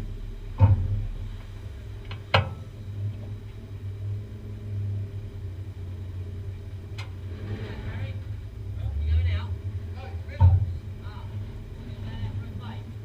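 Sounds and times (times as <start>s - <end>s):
stock car engines rumbling: 0.0s - 13.0s.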